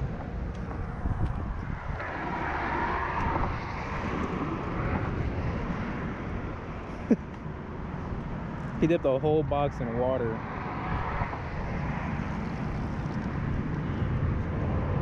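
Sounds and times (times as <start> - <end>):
road traffic rushing: 0.0 - 15.0
wind buffeting microphone: 0.0 - 15.0.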